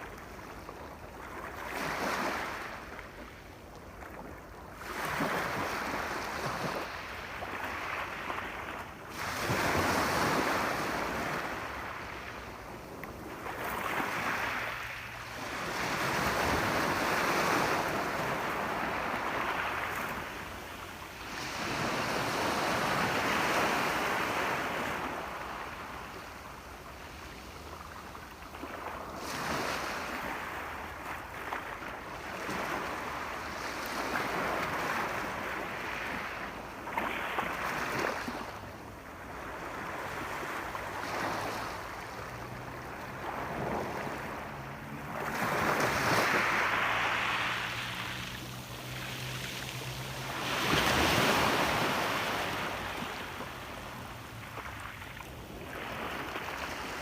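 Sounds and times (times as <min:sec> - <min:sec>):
ocean waves washing ashore: 0:00.0 - 0:57.0.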